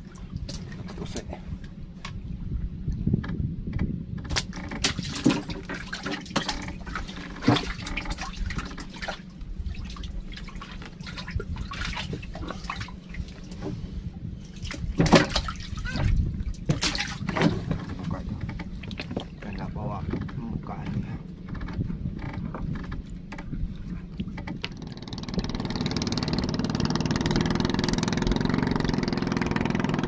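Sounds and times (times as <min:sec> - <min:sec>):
low rumble: 0:00.0 - 0:30.0
water splashing against boat: 0:00.0 - 0:30.0.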